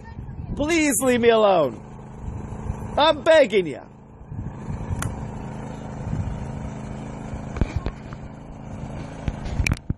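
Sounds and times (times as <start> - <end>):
vehicle engine idling: 0.0 - 9.9.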